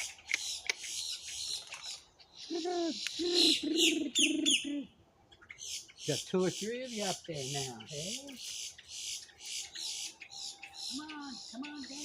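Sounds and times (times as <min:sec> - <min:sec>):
bird chirping: 0:00.0 - 0:12.0
crows cooing: 0:02.3 - 0:12.0.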